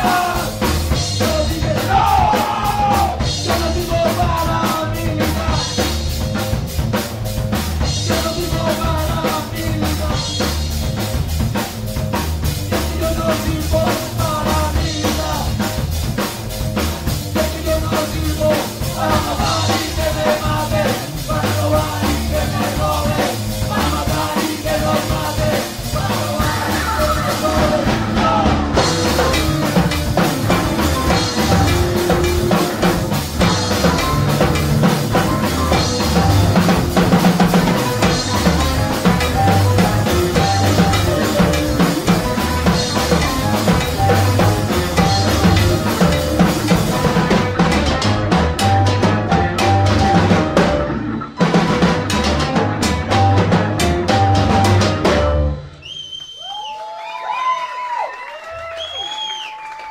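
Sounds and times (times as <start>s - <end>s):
drum kit beat: 0.0s - 55.8s
electric guitar: 0.0s - 55.8s.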